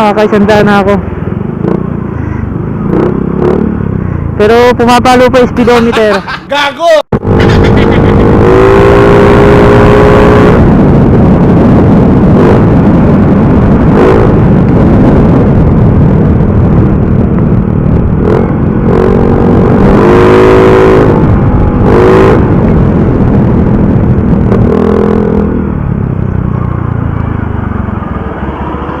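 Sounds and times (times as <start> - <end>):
motorcycle open exhaust: 0.0 - 6.0, 7.2 - 29.0
steady rushing noise: 0.0 - 29.0.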